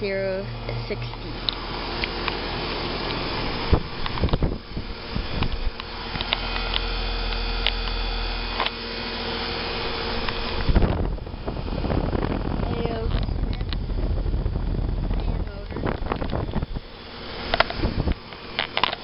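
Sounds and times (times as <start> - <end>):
compressor electrical hum: 0.0 - 19.0
condenser fan whoosh: 0.0 - 19.0.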